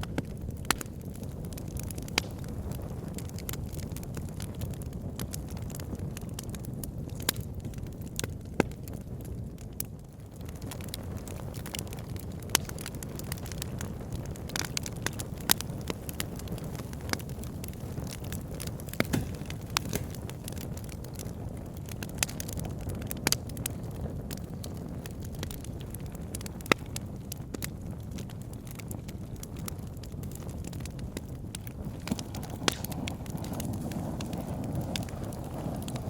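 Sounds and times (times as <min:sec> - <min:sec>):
fire crackling and popping: 0:00.0 - 0:36.0
flames rushing: 0:00.0 - 0:36.0.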